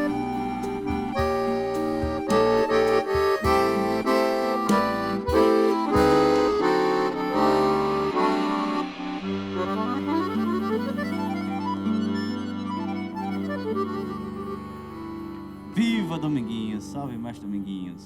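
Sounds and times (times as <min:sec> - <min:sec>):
accordion playing: 0:00.0 - 0:17.2.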